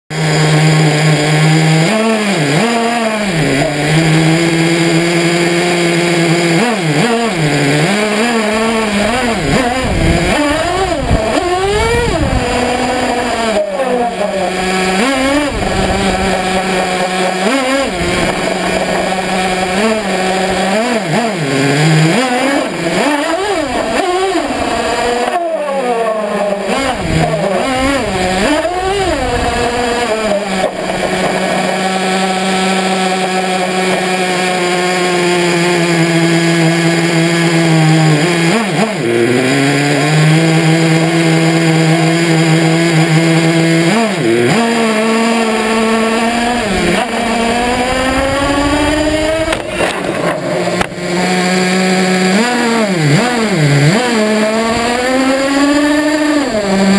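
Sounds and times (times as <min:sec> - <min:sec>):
toy car motor revving: 0:00.1 - 0:56.9.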